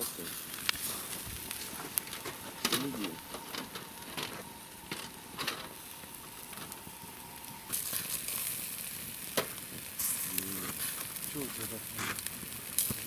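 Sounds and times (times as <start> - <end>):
crackles and pops: 0.0 - 13.0
sausage sizzling over coals: 0.0 - 13.0.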